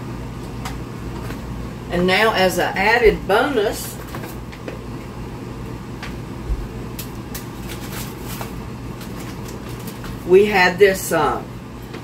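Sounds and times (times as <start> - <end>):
low mechanical motor hum: 0.0 - 12.0.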